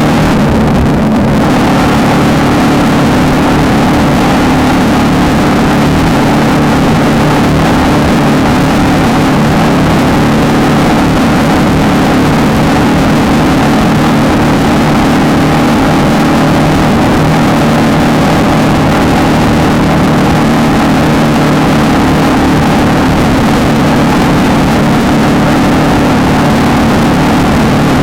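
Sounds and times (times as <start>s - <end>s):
race car engine running hard: 0.0s - 28.0s.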